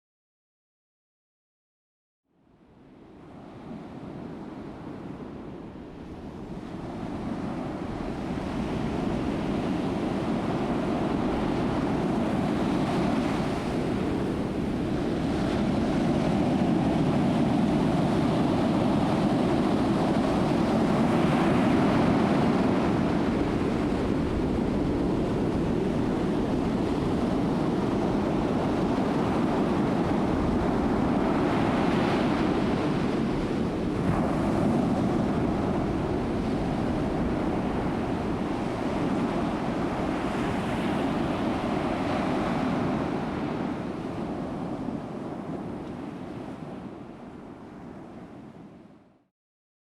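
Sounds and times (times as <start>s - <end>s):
ocean waves breaking: 6.4s - 48.4s.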